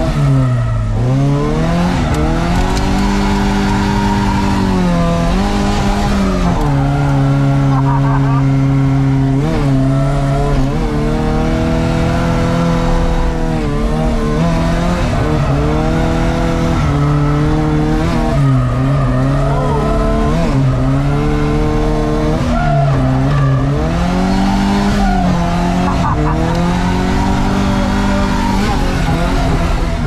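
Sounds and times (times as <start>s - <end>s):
car engine at high revs: 0.0s - 30.0s.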